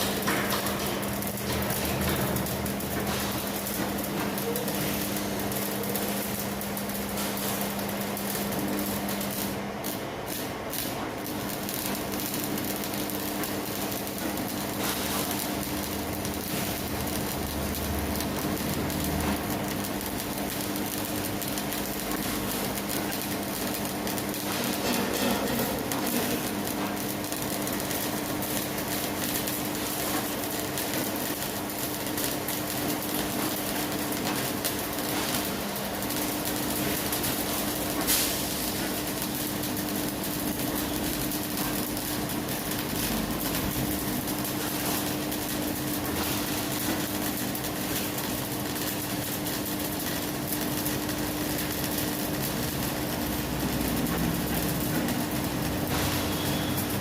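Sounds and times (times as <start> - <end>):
arc welding crackling hiss: 0.0 - 57.0.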